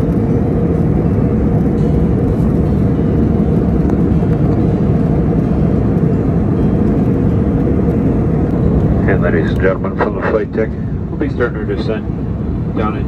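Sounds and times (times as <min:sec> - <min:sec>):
jet engines and airflow rushing: 0:00.0 - 0:13.0.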